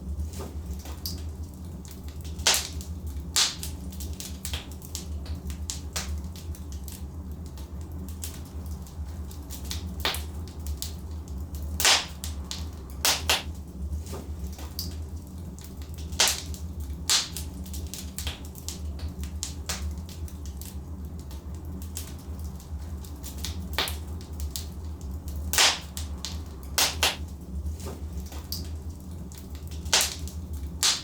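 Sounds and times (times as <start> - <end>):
low rumble of flames: 0.0 - 31.0
logs crackling and popping: 0.1 - 31.0.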